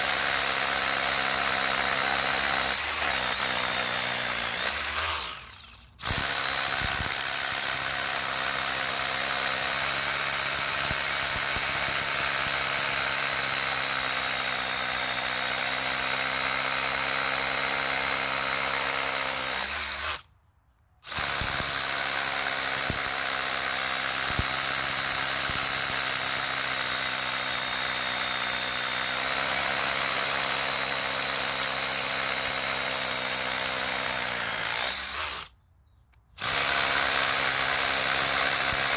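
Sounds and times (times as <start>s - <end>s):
rotary hammer drilling into concrete: 0.0s - 20.3s, 21.1s - 35.6s, 36.4s - 38.9s.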